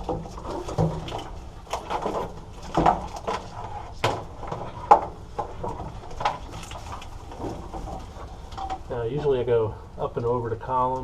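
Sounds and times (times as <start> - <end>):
wiring harness rustling and scraping: 0.0 - 9.5.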